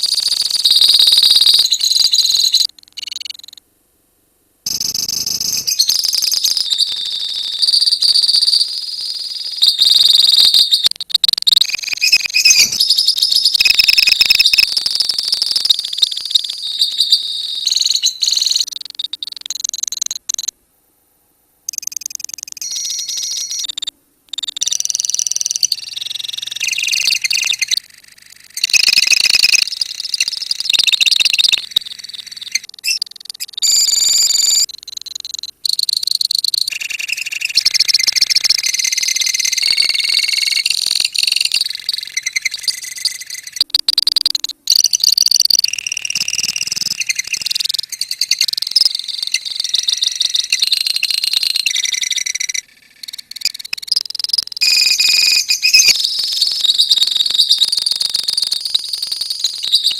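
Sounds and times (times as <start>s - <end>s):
lovebirds chattering and chirping: 4.7s - 20.5s, 21.7s - 59.9s.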